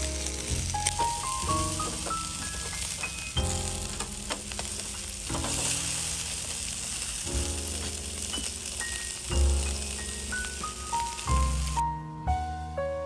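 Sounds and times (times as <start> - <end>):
background music with bass: 0.0 - 6.4, 7.2 - 8.6, 9.2 - 13.0
charcoal crackling: 0.0 - 11.9
meat sizzling on a grill: 0.0 - 11.9.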